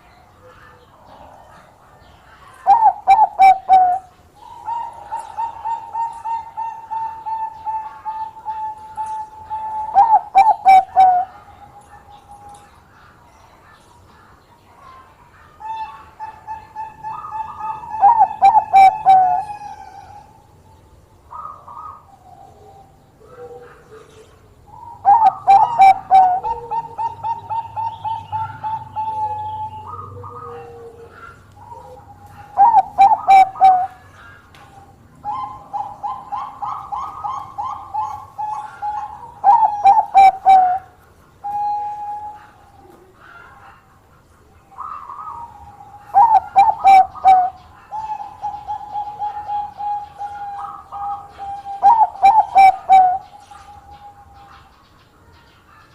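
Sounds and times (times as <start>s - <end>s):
dove cooing: 0.0s - 12.6s, 14.8s - 54.7s.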